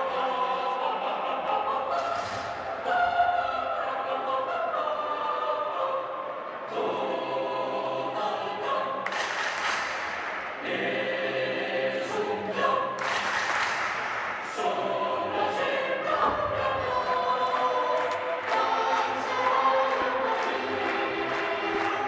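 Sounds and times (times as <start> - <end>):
youth choir singing: 0.0 - 9.5, 10.4 - 22.0.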